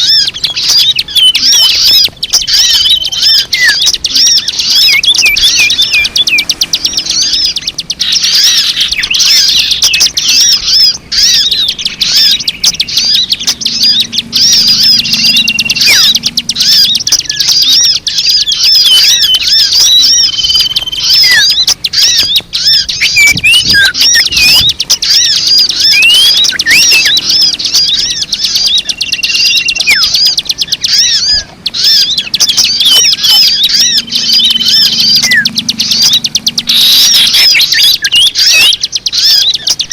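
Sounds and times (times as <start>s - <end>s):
bird whistle notes: 0.0s - 39.9s
flock of small birds chirping: 0.0s - 39.9s.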